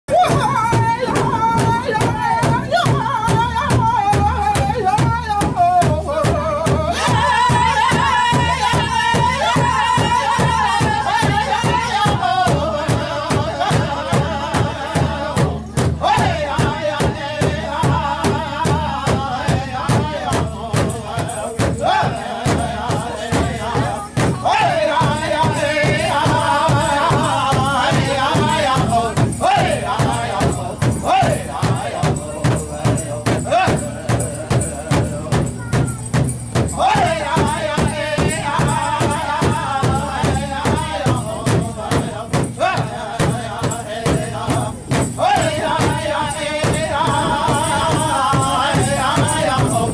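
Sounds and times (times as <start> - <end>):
group singing high held tones: 0.1 - 35.8, 36.6 - 49.9
big drum steady beat: 0.1 - 49.9
high chanting voices: 0.1 - 49.9.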